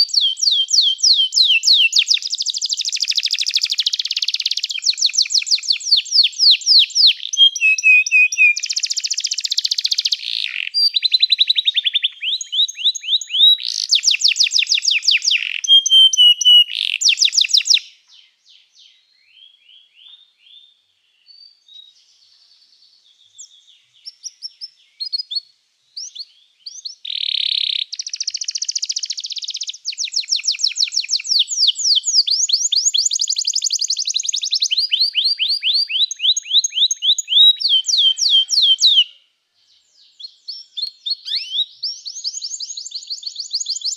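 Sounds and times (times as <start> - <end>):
canary singing trills: 0.0 - 22.2, 23.2 - 39.2, 40.0 - 43.9.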